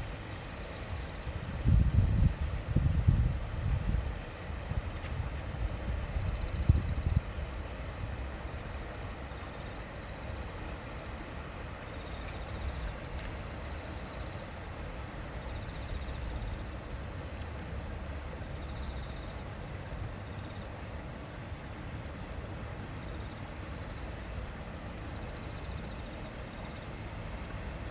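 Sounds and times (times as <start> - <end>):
river babbling: 5.4 - 27.9.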